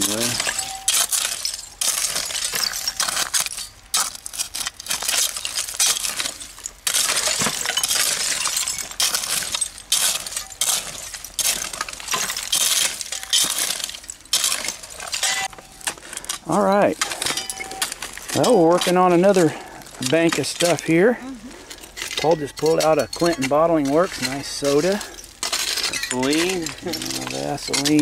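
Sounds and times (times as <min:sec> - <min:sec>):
glass shards clinking: 0:00.0 - 0:28.0.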